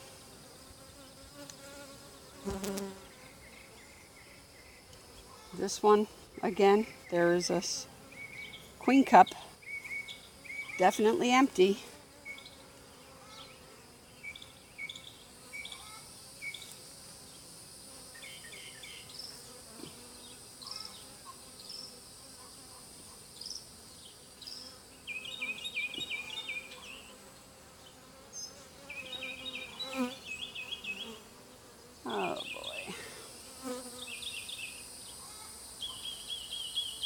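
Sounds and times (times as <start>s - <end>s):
honeybees buzzing: 0.0s - 37.0s.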